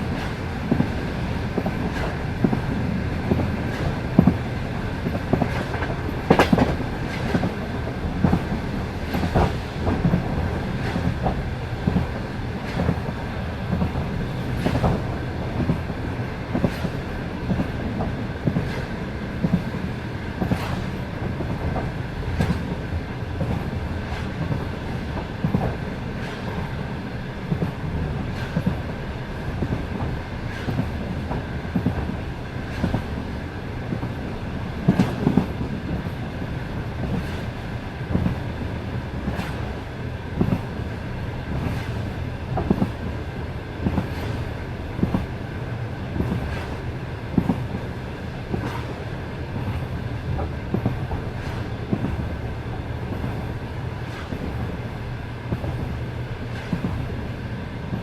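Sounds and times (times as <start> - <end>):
rolling rumble of train: 0.0 - 58.0
train wheels clickety-clack: 0.0 - 58.0.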